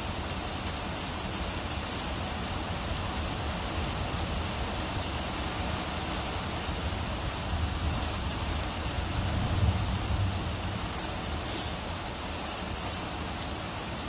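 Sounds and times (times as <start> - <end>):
rain on a tin roof: 0.0 - 14.0.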